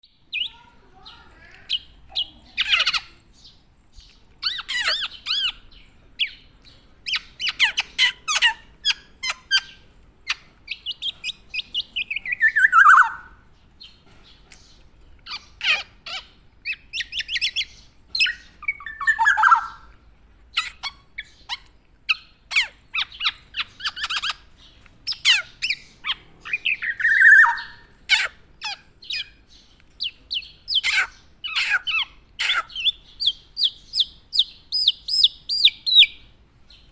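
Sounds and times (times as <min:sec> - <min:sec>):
oriole chirping: 0:00.0 - 0:36.9
harsh falling bird calls: 0:00.3 - 0:21.5, 0:22.5 - 0:36.9.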